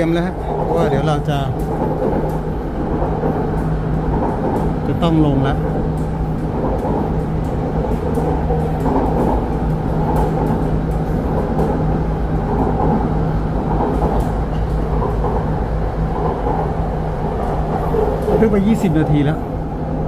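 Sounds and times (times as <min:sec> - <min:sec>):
constant low hum: 0:00.0 - 0:18.4
train carriage rumbling on rails: 0:00.0 - 0:20.0.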